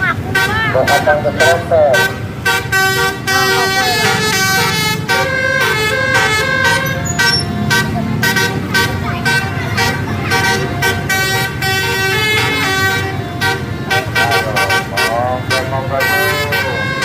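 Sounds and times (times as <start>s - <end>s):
bus engine running: 0.0s - 17.0s
tuned bus air horns melody: 0.0s - 17.0s.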